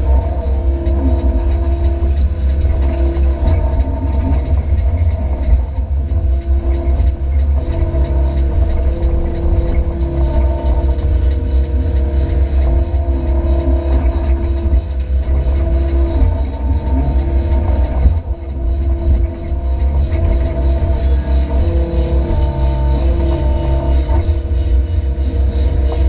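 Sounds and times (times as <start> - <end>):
hydraulic whine: 0.0 - 26.0.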